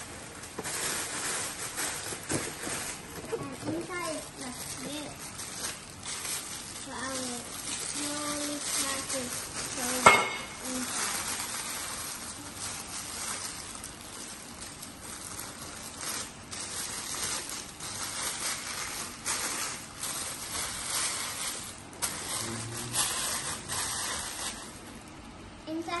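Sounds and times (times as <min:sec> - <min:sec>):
wrapping crinkling and rustling: 0:00.0 - 0:26.0.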